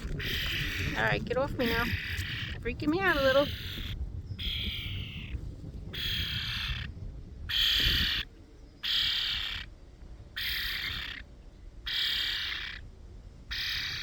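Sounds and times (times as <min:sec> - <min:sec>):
bird harsh raspy calls: 0:00.0 - 0:09.8, 0:10.4 - 0:12.9, 0:13.5 - 0:14.0.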